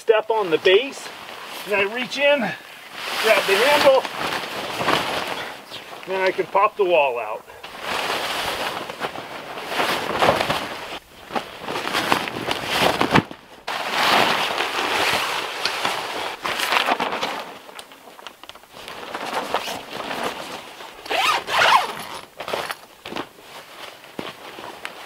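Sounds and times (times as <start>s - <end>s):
tent fabric rustling: 0.0s - 25.0s.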